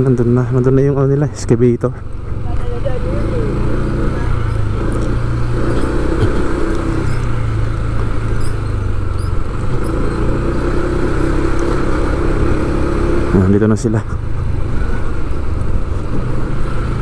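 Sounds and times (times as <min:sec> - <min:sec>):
road and traffic noise: 0:00.0 - 0:17.0
vehicle engine humming: 0:00.0 - 0:17.0.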